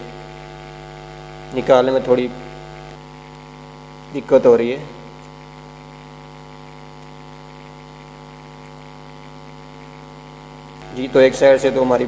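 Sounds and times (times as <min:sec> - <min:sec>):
buzzy electrical mains hum: 0:00.0 - 0:12.0.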